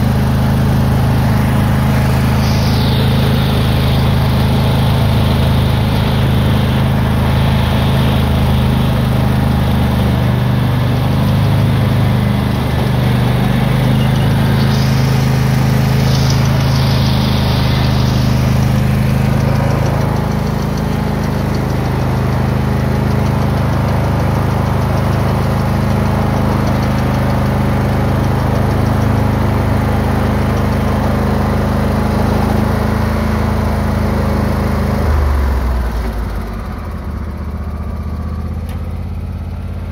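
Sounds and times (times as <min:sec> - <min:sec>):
gravel under tyres: 0:00.0 - 0:35.0
lawn tractor engine running: 0:00.0 - 0:39.9.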